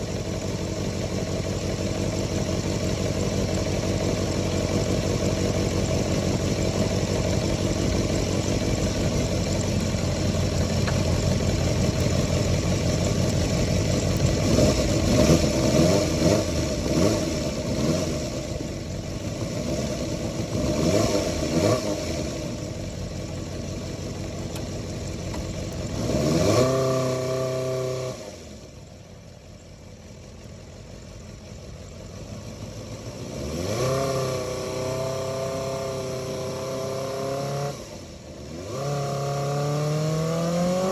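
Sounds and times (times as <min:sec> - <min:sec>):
motorcycle engine revving: 0:00.0 - 0:29.4, 0:30.2 - 0:40.9.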